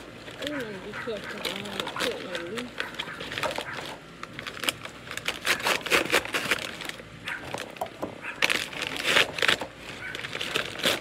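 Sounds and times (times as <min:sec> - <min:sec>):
packing material crinkling: 0:00.0 - 0:11.0.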